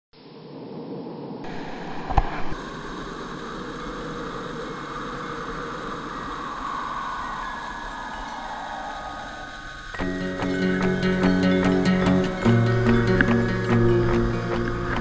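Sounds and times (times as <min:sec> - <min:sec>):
flowing water rushing: 0:01.4 - 0:15.0.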